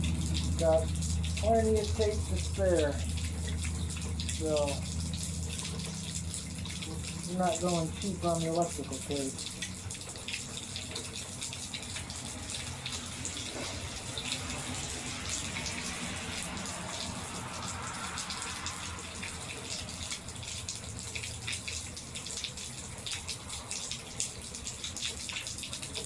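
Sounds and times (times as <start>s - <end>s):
rainwater splashing from gutter: 0.0s - 26.0s
water drip ticks: 0.0s - 26.0s.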